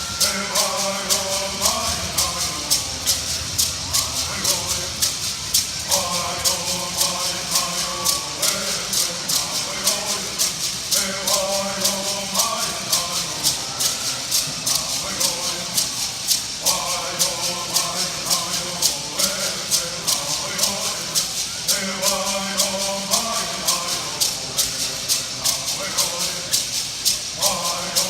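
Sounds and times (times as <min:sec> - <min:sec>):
gourd rattles shaking: 0:00.0 - 0:28.0
people singing in unison: 0:00.0 - 0:28.0.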